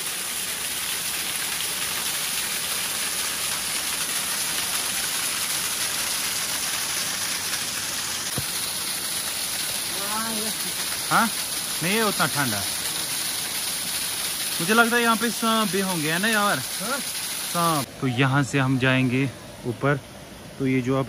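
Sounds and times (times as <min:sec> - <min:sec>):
waterfall splashing over rocks: 0:00.0 - 0:20.0.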